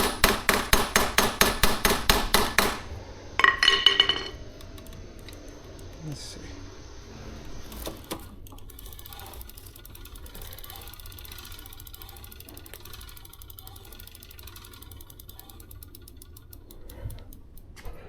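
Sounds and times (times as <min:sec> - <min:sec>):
bicycle freewheel ratchet clicking: 0:00.0 - 0:03.7, 0:04.4 - 0:06.4, 0:07.2 - 0:18.0.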